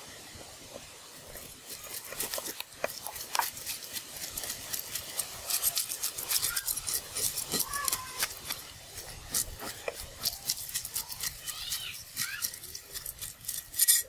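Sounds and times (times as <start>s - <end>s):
cleaver scraping fish scales: 0.4s - 14.0s.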